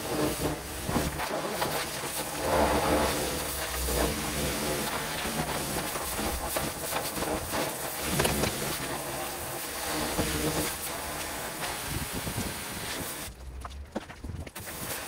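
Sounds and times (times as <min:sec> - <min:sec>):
pressure washer spraying water: 0:00.0 - 0:13.3, 0:14.6 - 0:15.0
engine running: 0:00.0 - 0:14.6.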